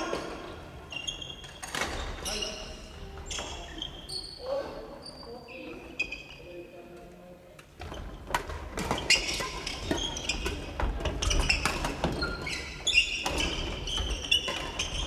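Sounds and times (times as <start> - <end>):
sneaker squeaks: 0.0 - 6.5, 7.8 - 15.0.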